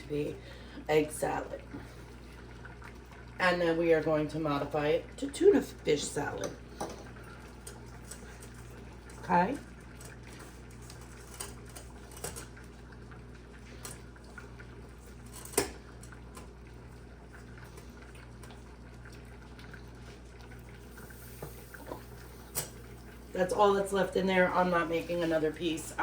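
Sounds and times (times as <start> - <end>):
stovetop cooking noise: 0.0 - 26.0.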